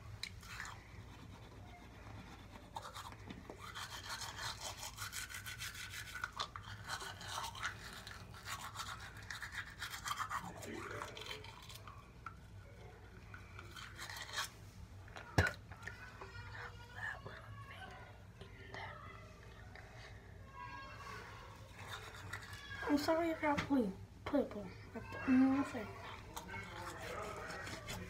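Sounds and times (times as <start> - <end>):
toothbrush scrubbing teeth: 0.0 - 17.9, 21.2 - 23.4, 25.2 - 28.0.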